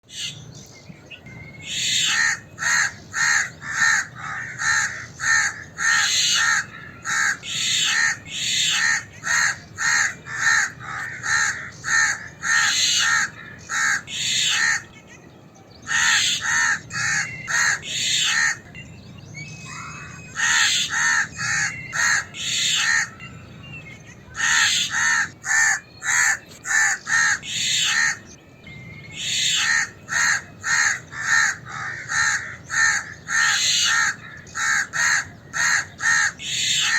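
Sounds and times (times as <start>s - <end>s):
crows cawing in alarm: 1.6s - 15.0s, 15.8s - 18.7s, 19.7s - 23.2s, 24.3s - 28.3s, 29.2s - 36.9s.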